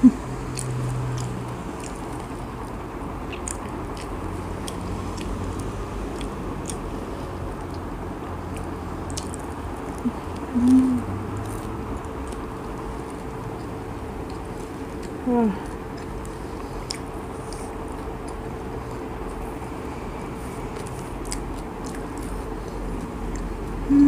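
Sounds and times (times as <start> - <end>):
chewing with crunchy clicks: 0.5 - 23.9.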